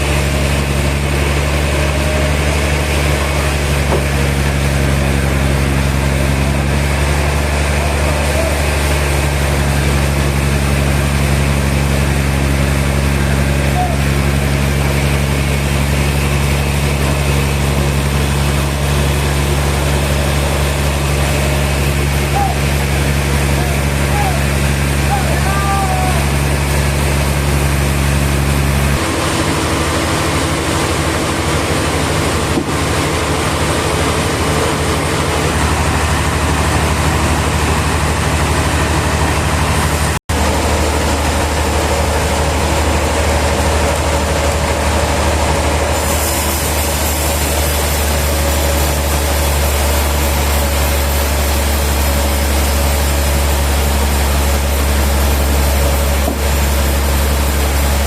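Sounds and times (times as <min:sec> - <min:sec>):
sawmill machinery engine drone: 0:00.0 - 0:58.0.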